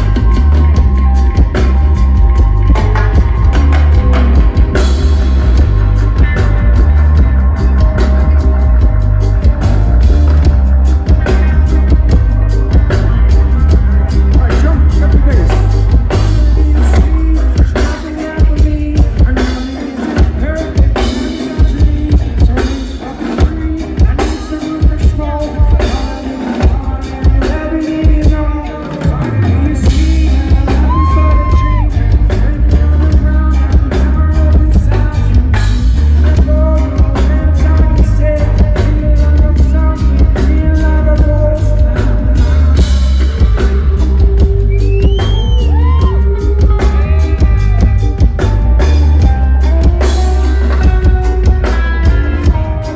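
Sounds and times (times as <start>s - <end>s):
heavy bass line: 0.0s - 28.5s, 29.1s - 52.9s
person singing: 0.0s - 52.9s
reggae band playing: 0.0s - 52.9s.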